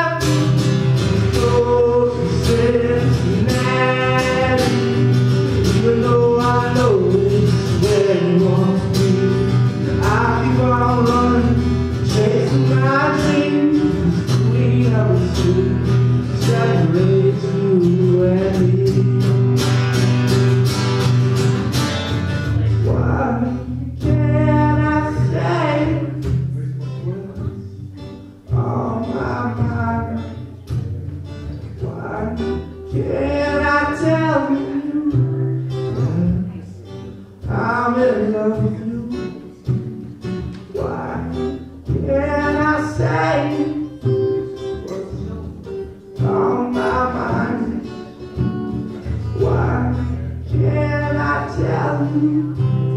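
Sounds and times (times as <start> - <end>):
man singing: 0.0 - 20.4, 21.9 - 52.9
strummed acoustic guitar: 0.0 - 52.9.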